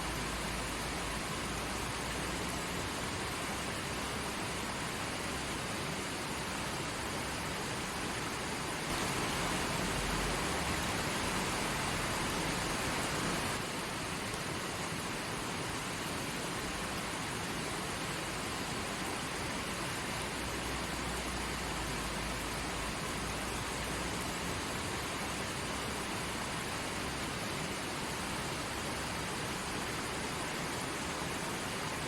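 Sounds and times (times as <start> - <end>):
creek water flowing: 0.0 - 32.0.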